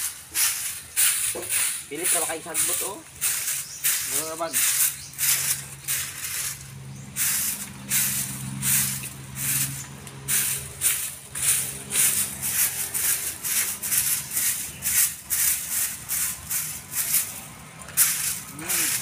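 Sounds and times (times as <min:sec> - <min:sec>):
stick broom sweeping leaves: 0:00.0 - 0:19.0.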